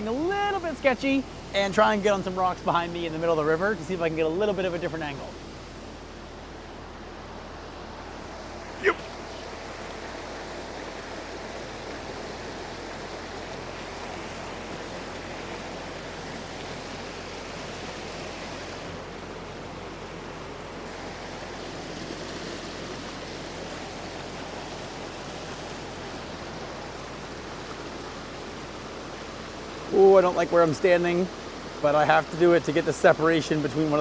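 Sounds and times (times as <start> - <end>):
river rushing over boulders: 0.0 - 34.0.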